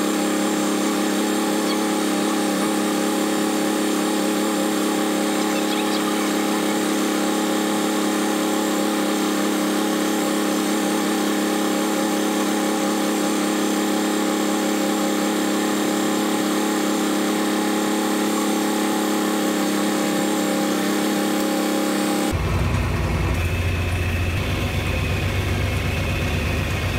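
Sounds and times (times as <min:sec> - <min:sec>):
tractor engine running under load: 0:00.0 - 0:26.9.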